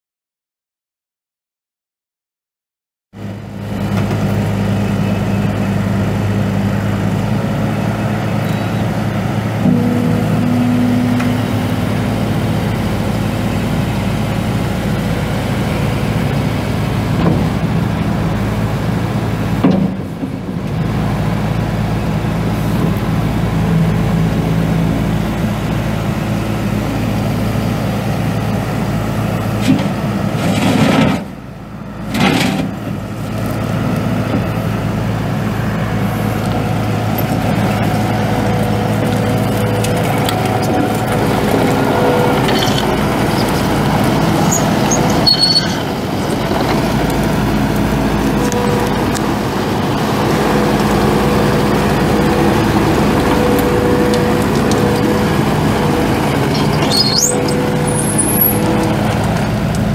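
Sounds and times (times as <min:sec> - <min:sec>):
diesel engine running: 0:03.2 - 0:59.9.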